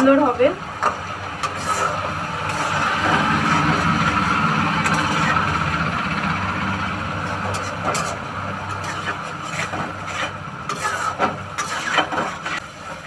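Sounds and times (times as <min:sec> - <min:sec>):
spatula stirring and scraping pan: 0:00.8 - 0:13.0
curry simmering in a pan: 0:00.9 - 0:13.0.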